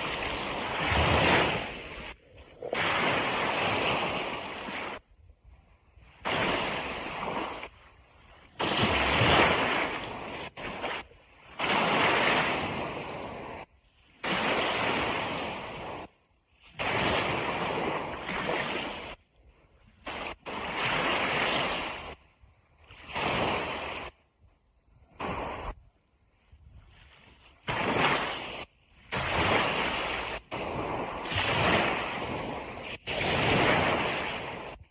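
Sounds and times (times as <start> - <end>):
surf washing on beach: 0.0 - 5.2, 5.8 - 22.3, 22.9 - 24.2, 24.8 - 34.9.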